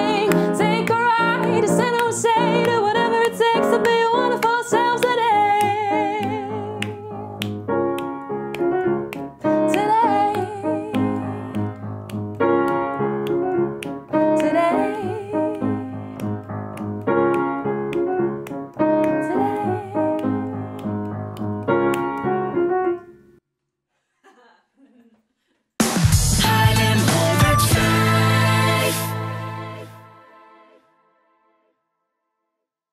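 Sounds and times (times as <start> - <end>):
acoustic pop song on piano: 0.0 - 23.0, 26.3 - 29.9.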